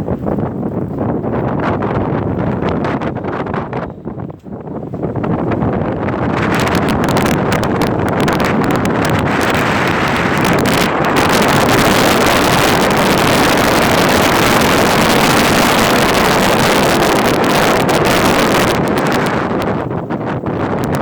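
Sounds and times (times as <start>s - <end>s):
wind roaring across microphone: 0.0s - 21.0s.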